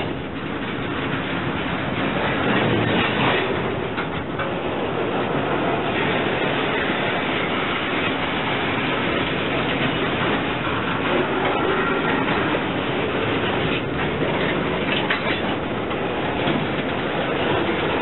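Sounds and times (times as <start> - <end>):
boxcar clanks: 0.0 - 18.0
freight train wheels rumbling: 0.0 - 18.0.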